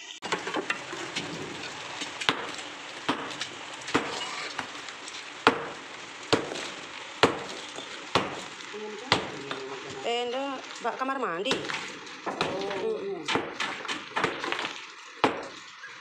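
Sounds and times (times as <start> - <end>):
heavy rain: 0.0 - 16.0
rubble shifting: 0.2 - 16.0
hand tool striking concrete: 0.3 - 10.0, 11.5 - 15.9.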